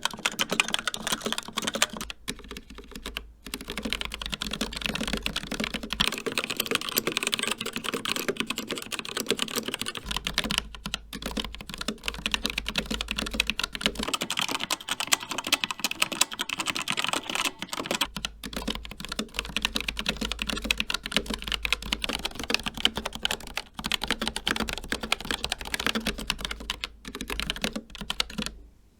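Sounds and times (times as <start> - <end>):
fast typing on mechanical keyboard: 0.0 - 28.6.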